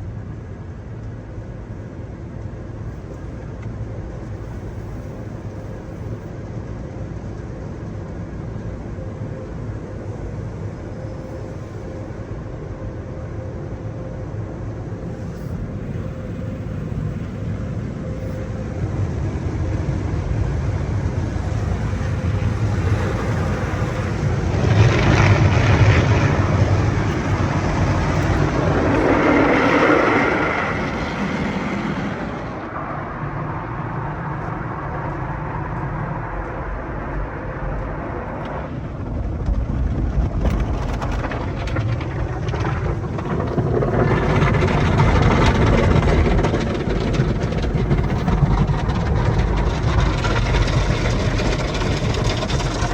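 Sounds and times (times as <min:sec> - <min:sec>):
car wash equipment rumbling: 0:02.8 - 0:52.9.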